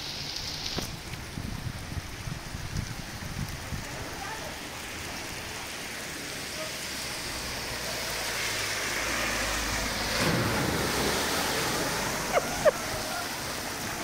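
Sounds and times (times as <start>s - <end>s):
car splashing through water: 0.0s - 14.0s
heavy rain downpour: 0.0s - 14.0s.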